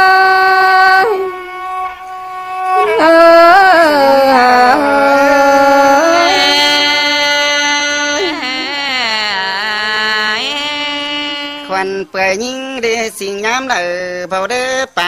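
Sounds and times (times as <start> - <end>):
person singing long sliding notes: 0.0 - 14.8.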